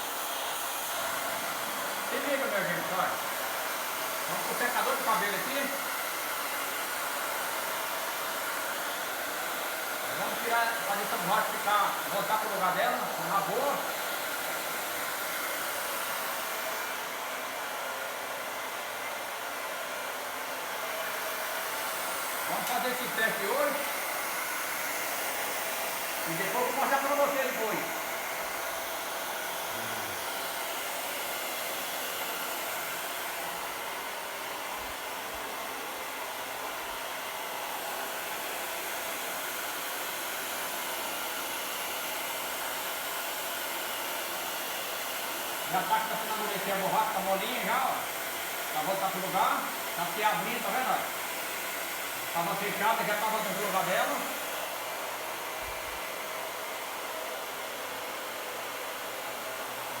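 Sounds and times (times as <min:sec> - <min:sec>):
hair dryer blowing: 0:00.0 - 1:00.0.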